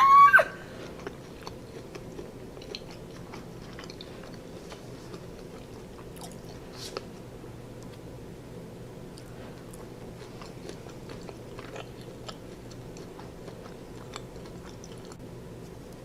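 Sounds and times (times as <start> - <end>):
steady low hum: 0.0 - 16.0
person chewing food: 0.5 - 8.0, 9.1 - 16.0.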